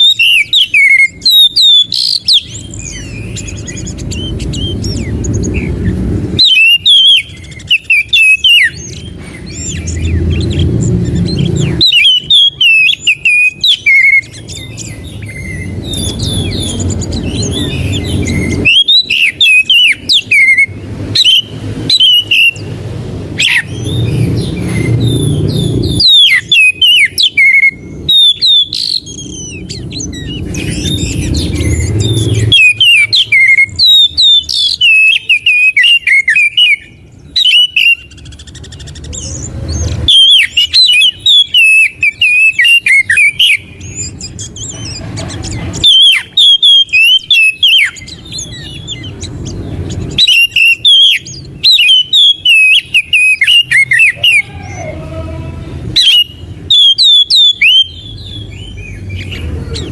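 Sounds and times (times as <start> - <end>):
bird song whistles and chirps: 0.0 - 55.3, 55.9 - 59.9.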